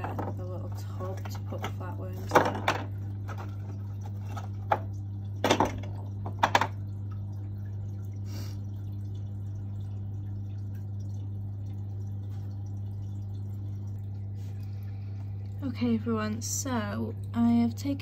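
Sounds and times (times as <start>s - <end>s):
steady low hum: 0.0s - 18.0s
water dripping into a tub: 0.0s - 18.0s.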